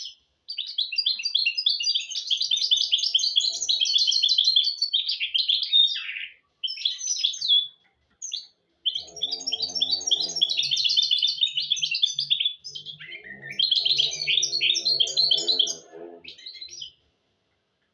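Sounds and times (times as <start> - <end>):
bird twittering song: 0.0 - 17.1.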